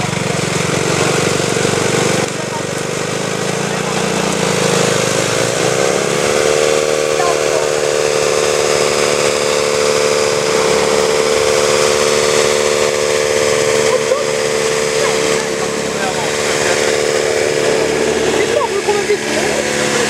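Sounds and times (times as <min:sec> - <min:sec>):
truck engine running: 0:00.0 - 0:20.0
winch whining under load: 0:00.0 - 0:20.0.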